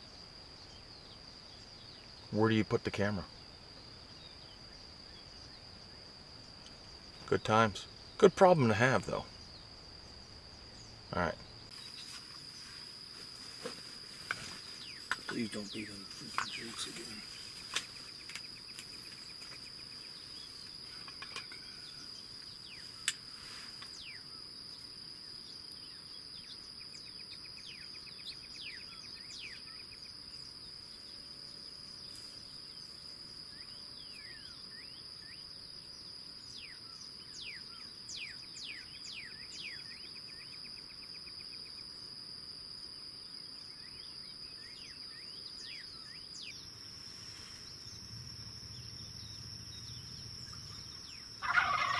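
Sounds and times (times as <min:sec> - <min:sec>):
songbirds chirping: 0:00.0 - 0:51.9
high-pitched insect drone: 0:08.7 - 0:51.9.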